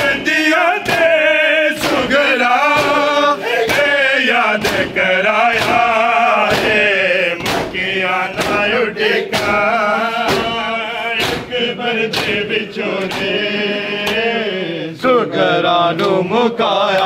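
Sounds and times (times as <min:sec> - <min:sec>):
hand slaps on chests: 0:00.0 - 0:14.4
men chanting together: 0:00.0 - 0:17.0.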